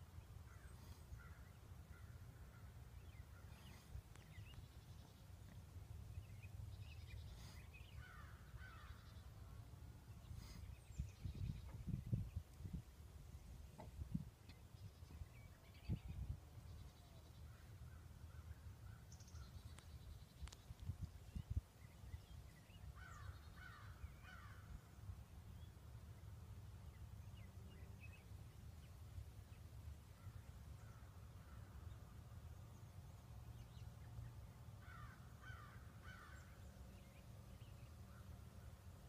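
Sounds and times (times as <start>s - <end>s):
distant bird calls: 0.0s - 12.5s, 16.6s - 39.0s.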